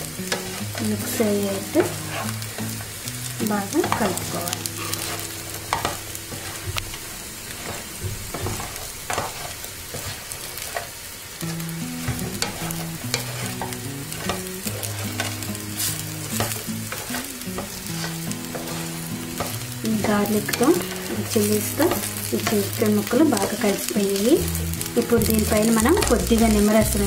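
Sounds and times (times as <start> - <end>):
food sizzling: 0.0 - 27.0
wooden spatula scraping a pan: 0.3 - 23.9.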